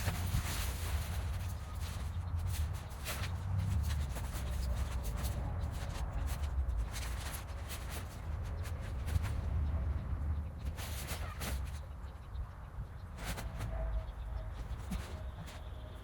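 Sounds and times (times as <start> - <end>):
rustling and scraping handling: 0.0 - 16.0
steady low rumble: 0.0 - 16.0.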